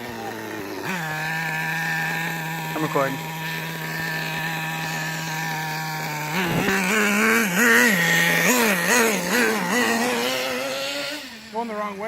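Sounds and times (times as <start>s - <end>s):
small engine idling and revving: 0.0s - 12.0s.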